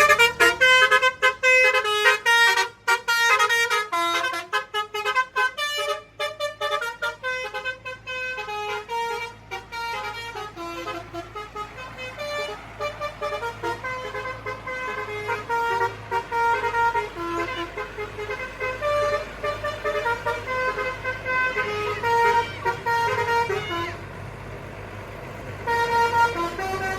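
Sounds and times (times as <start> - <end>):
multi-tone musical air horn: 0.0 - 24.0, 25.6 - 26.9.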